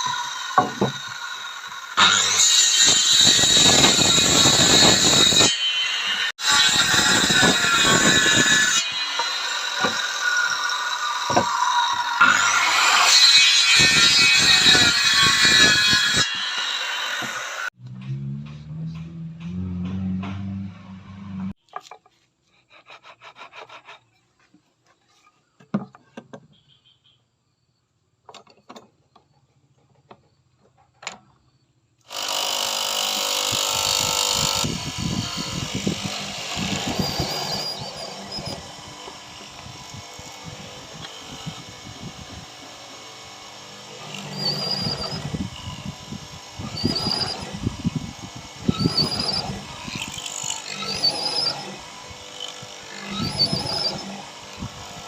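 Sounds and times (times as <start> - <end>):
loud tool working wood: 0.0 - 26.0, 32.1 - 55.0.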